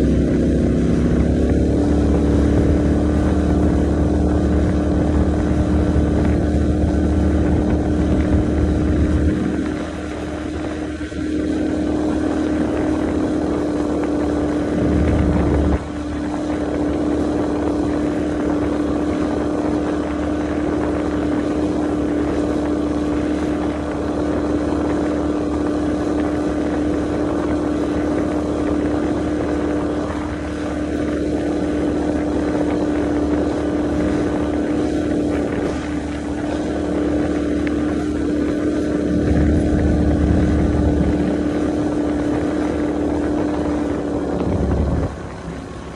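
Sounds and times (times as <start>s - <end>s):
outboard motor droning: 0.0s - 45.9s
rushing water: 0.0s - 45.9s
wind on microphone: 0.0s - 45.9s.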